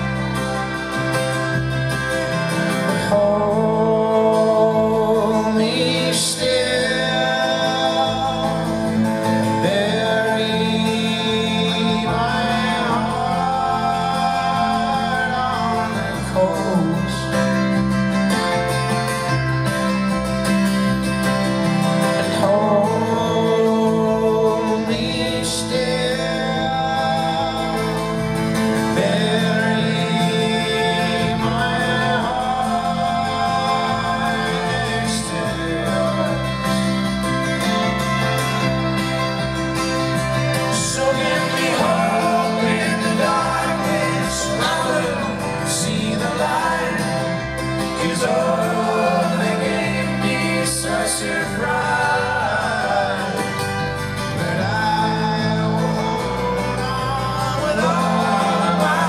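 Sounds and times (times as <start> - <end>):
band playing: 0.0 - 59.0
strummed acoustic guitar: 0.0 - 59.0
man singing: 2.0 - 18.9, 22.0 - 59.0.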